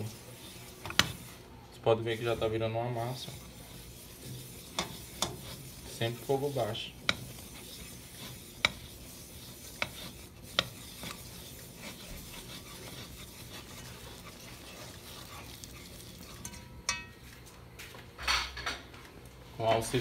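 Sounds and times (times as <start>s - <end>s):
spatula scraping a pan: 0.0s - 17.2s
faint sizzle: 0.0s - 17.5s.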